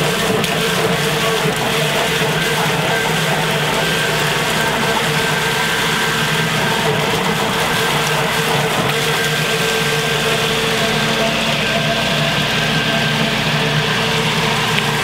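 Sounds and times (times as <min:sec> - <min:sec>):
pump motor hum: 0:00.0 - 0:15.0
water pouring into a strainer: 0:00.0 - 0:15.0.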